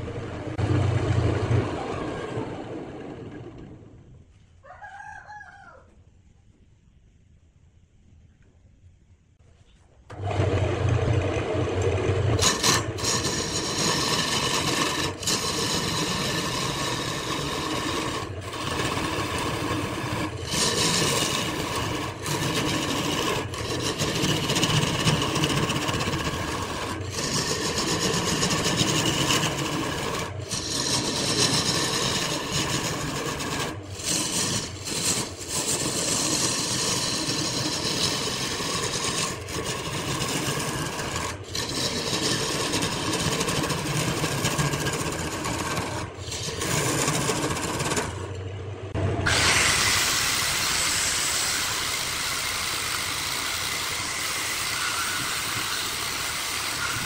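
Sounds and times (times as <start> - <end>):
lathe tool scraping wood: 10.1 - 48.4, 49.3 - 57.0.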